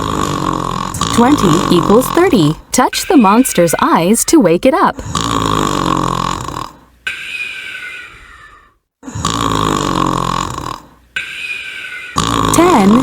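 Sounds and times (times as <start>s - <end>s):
cartoon monster snoring: 0.0s - 2.6s, 5.0s - 13.0s.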